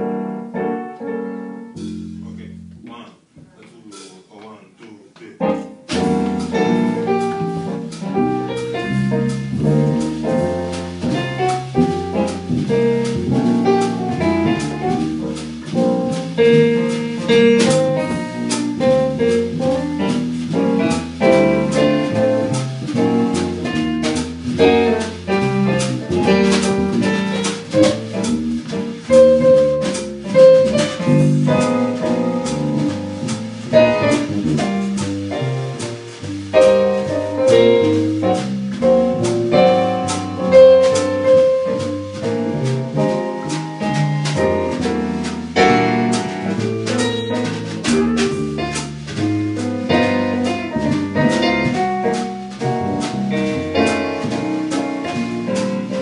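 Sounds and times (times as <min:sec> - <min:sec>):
live band playing: 0:05.8 - 0:56.0.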